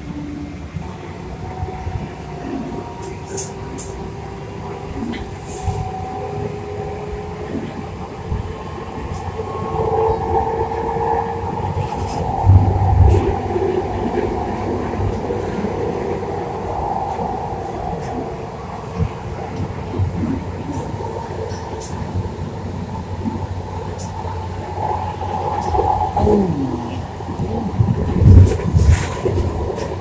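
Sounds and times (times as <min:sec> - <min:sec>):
light-rail car rumble: 0:00.0 - 0:30.0.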